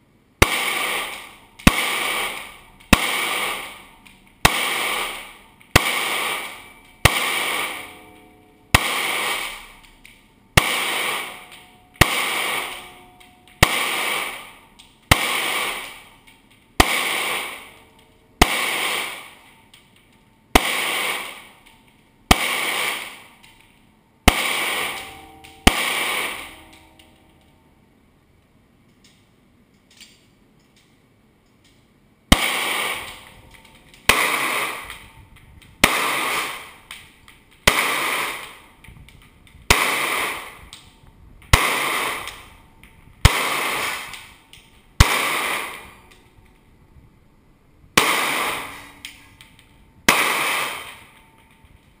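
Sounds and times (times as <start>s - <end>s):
pistol shots echoing indoors: 0.4s - 27.7s, 32.3s - 46.6s, 48.0s - 51.6s.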